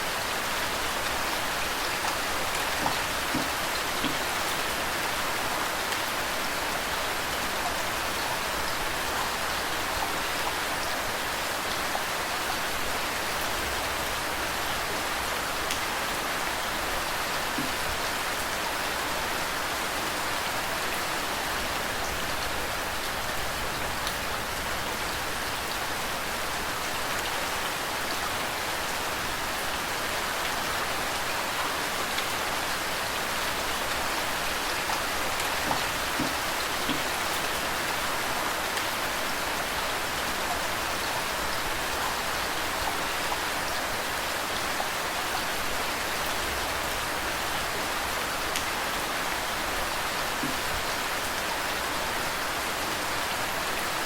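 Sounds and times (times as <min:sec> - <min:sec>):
flowing water: 0:00.0 - 0:54.0
steady rain falling: 0:00.0 - 0:54.0.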